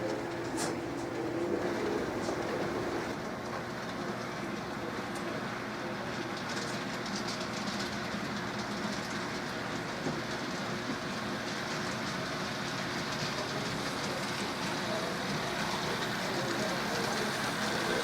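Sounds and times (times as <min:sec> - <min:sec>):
model train rolling: 0:00.0 - 0:18.0.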